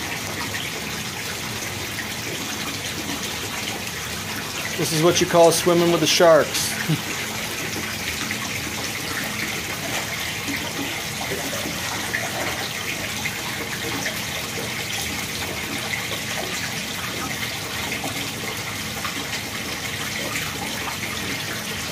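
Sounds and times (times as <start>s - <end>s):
running water in a pond: 0.0s - 21.9s.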